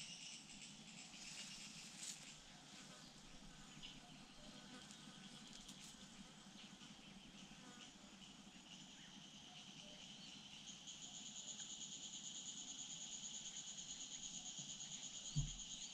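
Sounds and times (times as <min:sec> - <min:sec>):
high-pitched insect chorus: 0:00.0 - 0:02.5, 0:03.3 - 0:15.9.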